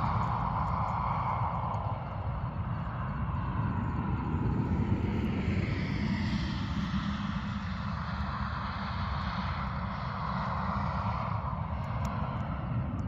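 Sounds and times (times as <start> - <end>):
distant aircraft drone: 0.0 - 13.0
low rumble: 0.0 - 13.0.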